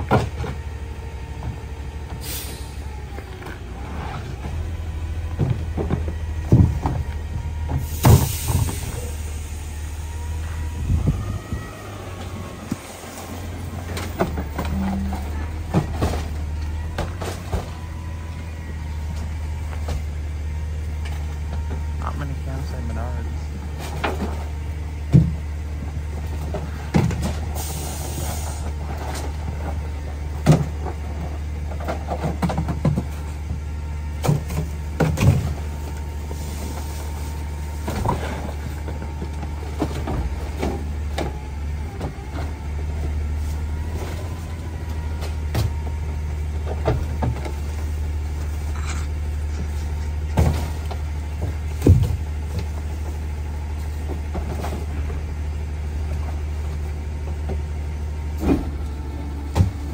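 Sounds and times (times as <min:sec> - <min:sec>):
garbage truck idling: 0:00.0 - 0:59.9.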